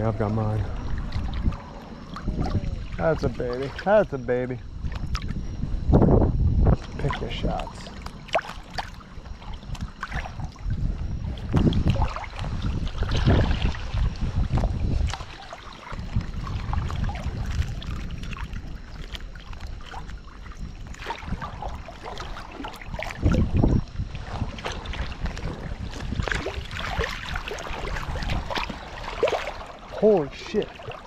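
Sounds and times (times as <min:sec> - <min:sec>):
water sloshing and splashing: 0:00.0 - 0:31.0
wind rumbling on microphone: 0:00.0 - 0:31.0.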